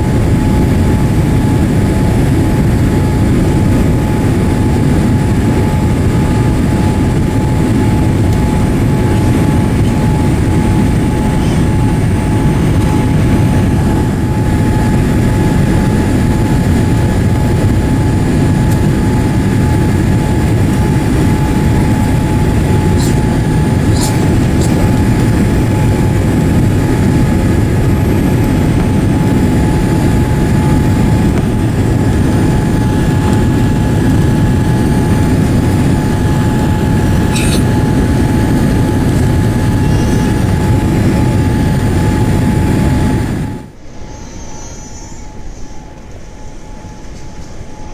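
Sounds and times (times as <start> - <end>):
airplane cabin airflow and engines: 0.0 - 47.9
constant mid-pitched hum: 0.0 - 47.9.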